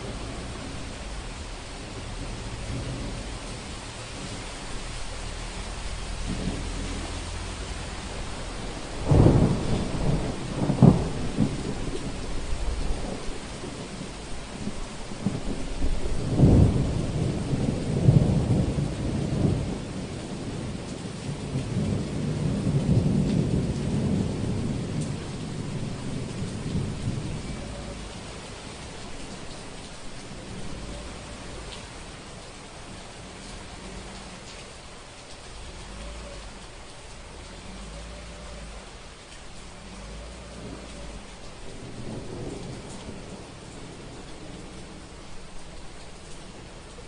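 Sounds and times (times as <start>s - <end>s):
thunder claps: 0.0s - 32.4s, 33.1s - 45.8s
rolling rumble of thunder: 0.0s - 47.0s
steady rain: 0.0s - 47.0s.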